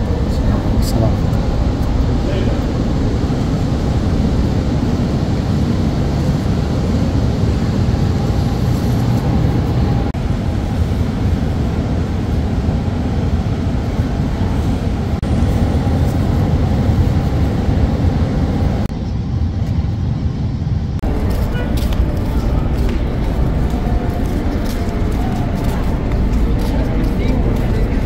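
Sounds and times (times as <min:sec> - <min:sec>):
low rumbling background noise: 0:00.0 - 0:28.0.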